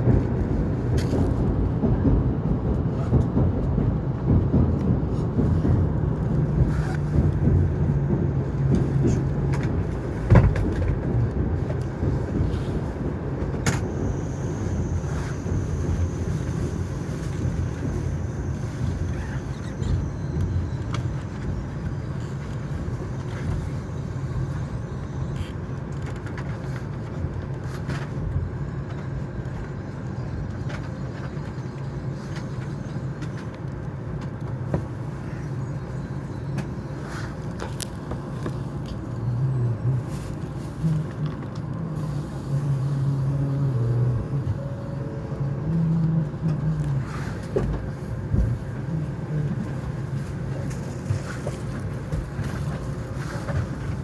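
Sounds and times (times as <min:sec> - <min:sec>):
train running rumble and hum: 0:00.0 - 0:54.0.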